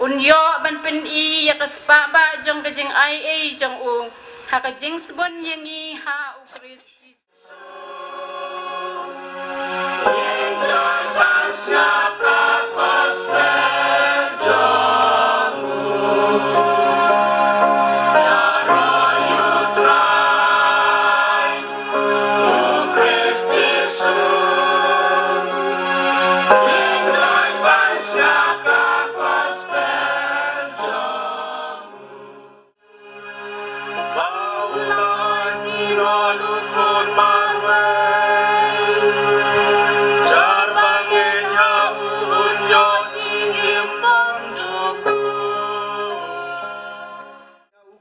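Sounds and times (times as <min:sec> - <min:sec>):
choir singing: 0:07.4 - 0:47.7.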